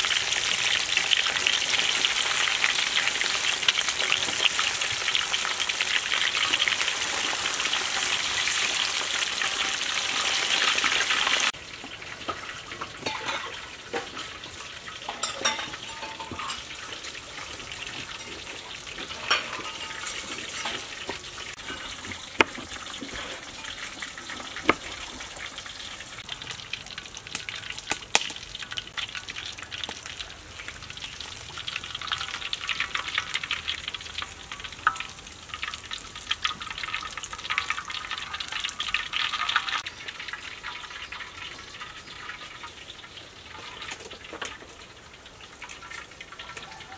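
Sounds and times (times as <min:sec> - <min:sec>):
fish deep-frying in oil: 0:00.0 - 0:46.9.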